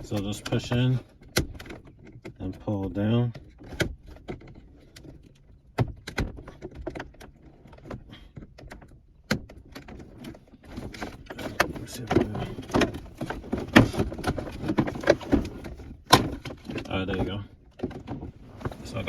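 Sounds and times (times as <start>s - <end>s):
plastic clattering: 3.3s - 19.0s.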